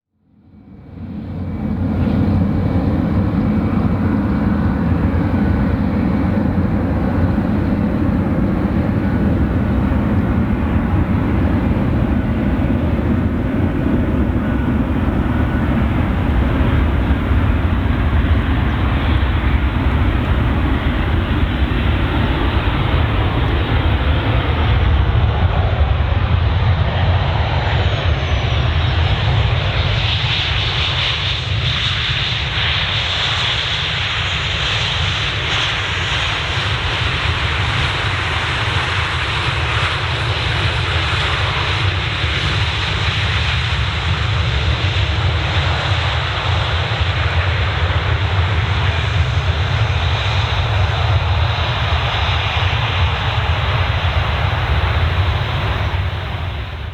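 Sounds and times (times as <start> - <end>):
jet engine roar: 0.4 - 56.9.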